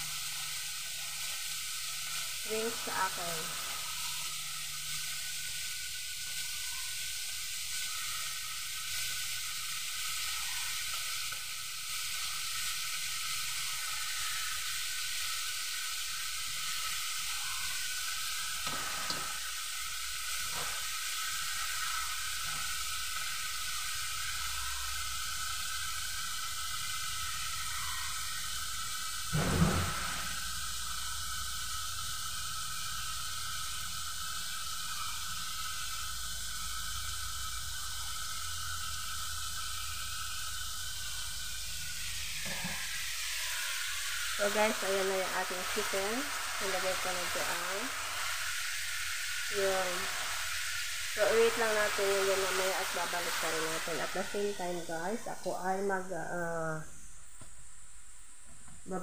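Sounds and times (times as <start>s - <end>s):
chicken sizzling in a wok: 0.0s - 59.0s.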